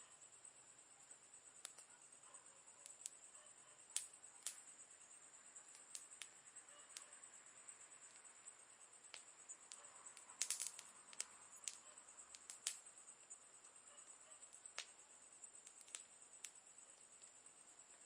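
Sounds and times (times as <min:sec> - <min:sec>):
faint high-pitched hiss: 0:00.0 - 0:18.0
campfire wood crackling: 0:01.5 - 0:18.0.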